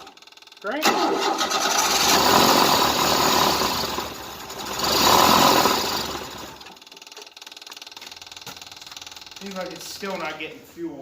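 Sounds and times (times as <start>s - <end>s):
engine cranking without starting: 0.0s - 10.3s.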